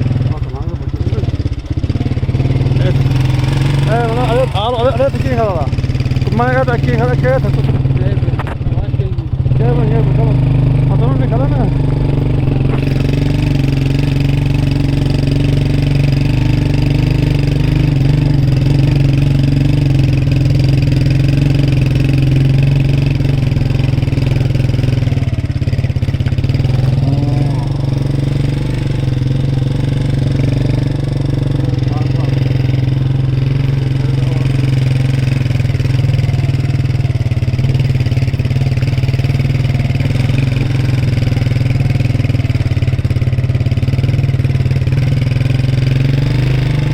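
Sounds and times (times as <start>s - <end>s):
vehicle engine humming: 0.0s - 46.9s.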